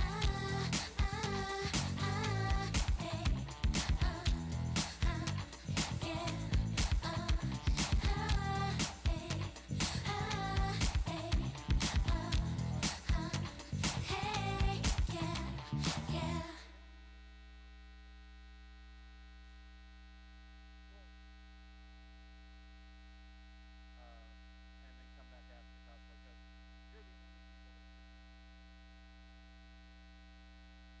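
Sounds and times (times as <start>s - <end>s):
electrical mains hum: 0.0s - 31.0s.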